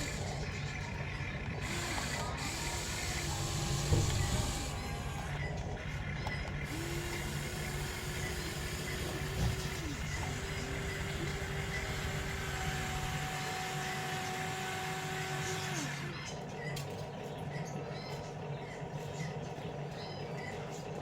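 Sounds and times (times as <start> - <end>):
toy electric motors whining: 0.0 - 21.0.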